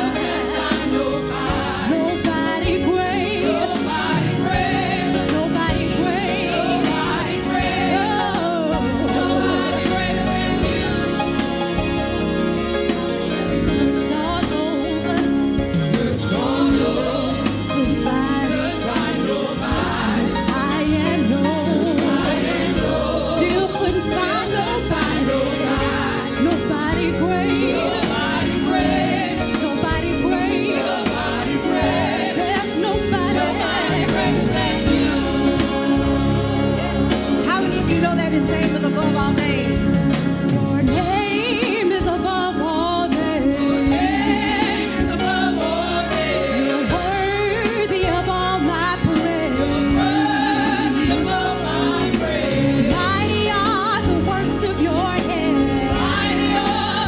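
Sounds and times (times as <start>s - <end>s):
gospel choir singing: 0.0s - 57.0s
lead singer's voice: 0.0s - 57.0s.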